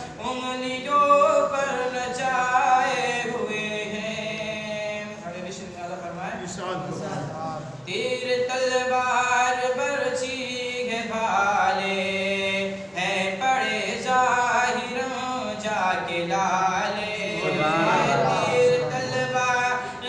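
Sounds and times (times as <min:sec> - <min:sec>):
man chanting: 0:00.0 - 0:06.3, 0:07.8 - 0:20.0.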